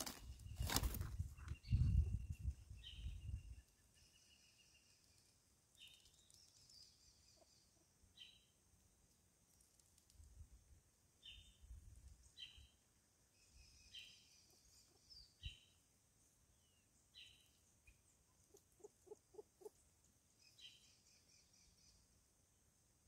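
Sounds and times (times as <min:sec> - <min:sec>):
birds chirping and twittering: 0:00.0 - 0:08.6, 0:11.2 - 0:22.2.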